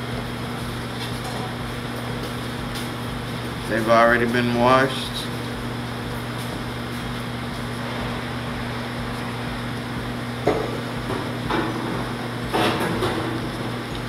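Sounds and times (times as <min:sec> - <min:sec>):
ventilation hum: 0:00.0 - 0:14.0.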